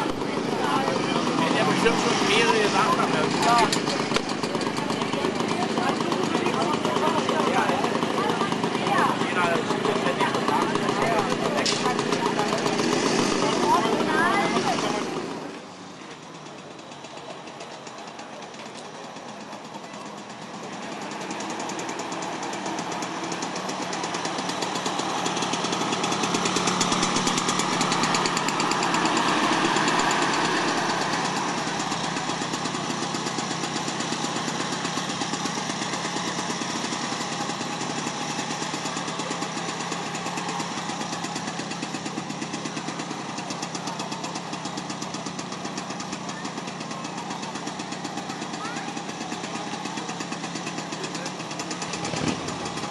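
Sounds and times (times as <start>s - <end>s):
two-stroke scooter engine running: 0.0s - 52.9s.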